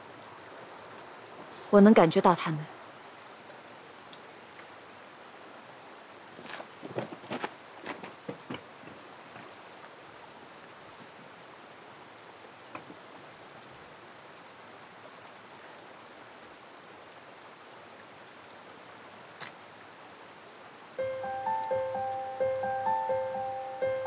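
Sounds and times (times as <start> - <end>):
river flowing: 0.0 - 6.9, 7.5 - 24.0.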